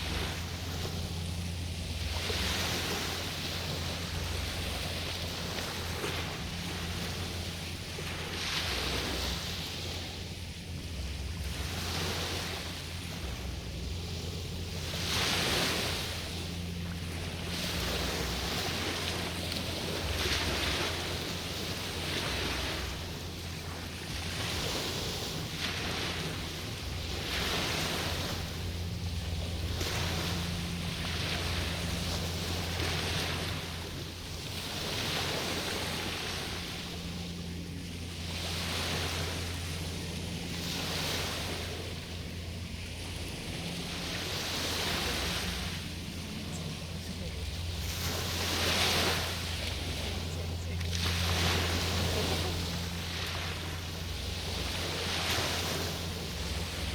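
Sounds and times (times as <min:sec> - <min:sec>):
small waves washing on shore: 0:00.0 - 0:56.9
steady low hum: 0:00.0 - 0:56.9
steady low rumble: 0:00.0 - 0:56.9.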